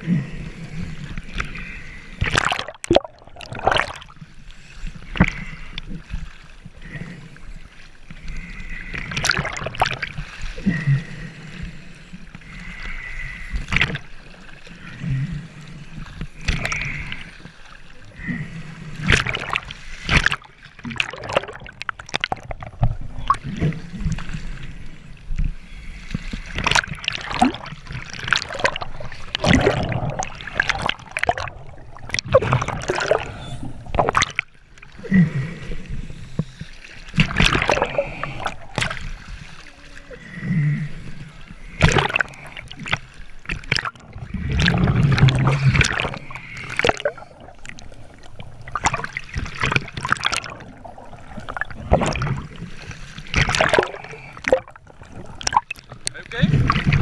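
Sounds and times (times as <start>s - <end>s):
exhaled bubbles gurgling: 0.0s - 4.3s, 8.3s - 11.8s, 12.4s - 57.0s.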